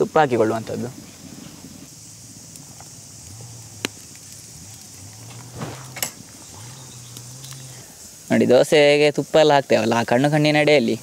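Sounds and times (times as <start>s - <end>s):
batter sizzling on hot griddle: 0.0s - 11.0s.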